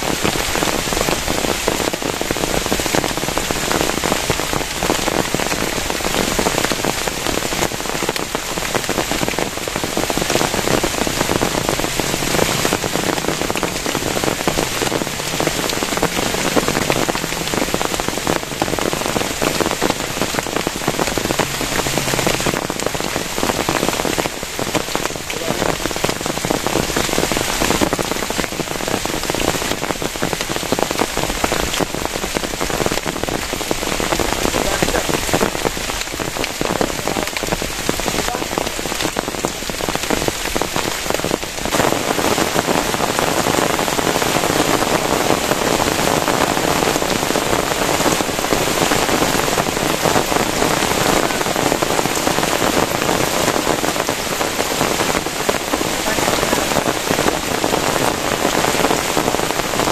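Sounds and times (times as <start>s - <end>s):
heavy rain on plastic sheet: 0.0s - 59.9s.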